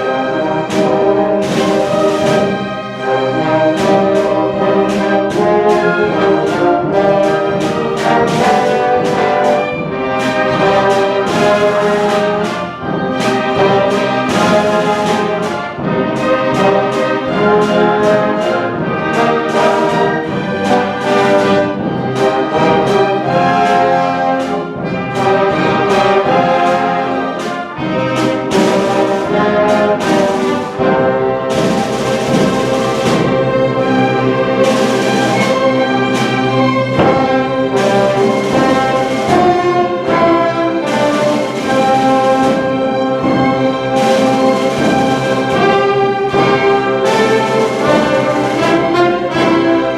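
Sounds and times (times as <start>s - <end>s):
brass playing accented notes: 0.0s - 49.9s
orchestra playing festive music: 0.0s - 49.9s.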